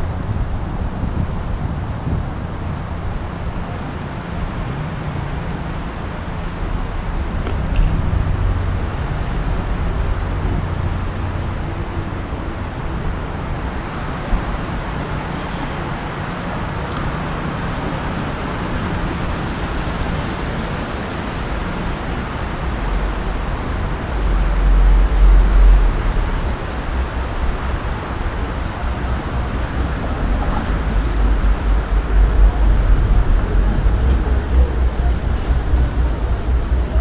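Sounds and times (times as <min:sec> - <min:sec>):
traffic rumble: 0:00.0 - 0:37.0
low hum: 0:06.1 - 0:37.0.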